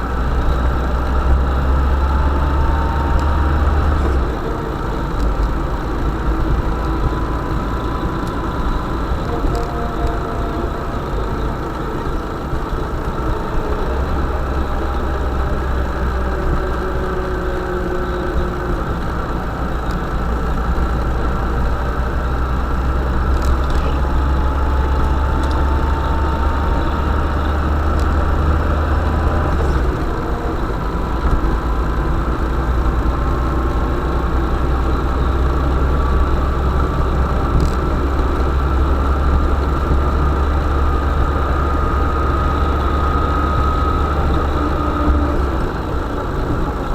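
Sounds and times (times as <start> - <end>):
van engine rumbling: 0.0 - 46.9.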